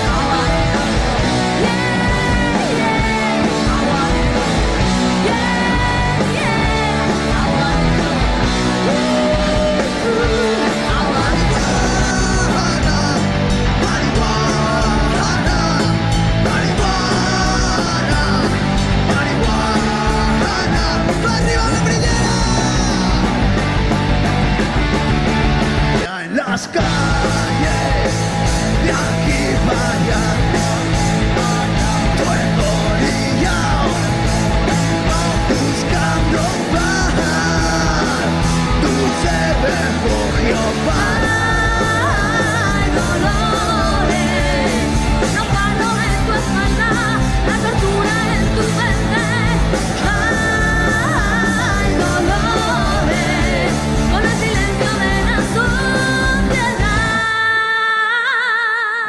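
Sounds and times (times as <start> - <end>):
lead singer singing: 0.0 - 23.8, 25.9 - 59.0
drum beat: 0.0 - 26.1, 26.8 - 56.9
rock band playing: 0.0 - 57.7
electric guitars: 0.0 - 58.2.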